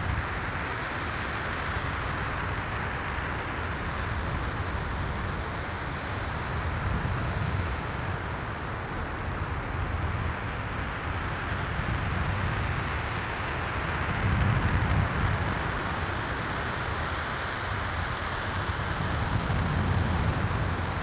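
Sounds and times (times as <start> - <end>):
rocket engine roaring: 0.0 - 21.0.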